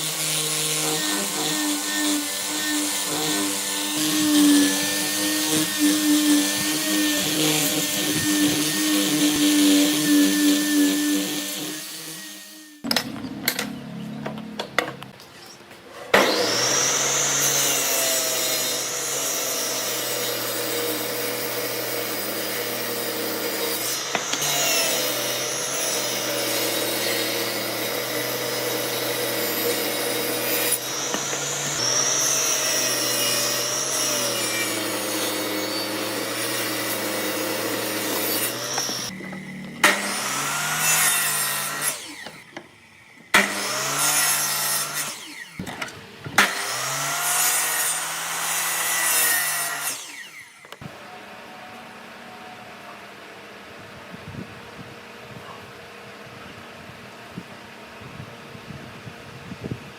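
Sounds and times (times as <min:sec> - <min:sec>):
power tool cutting wood: 0:00.0 - 0:13.8, 0:16.0 - 0:52.2.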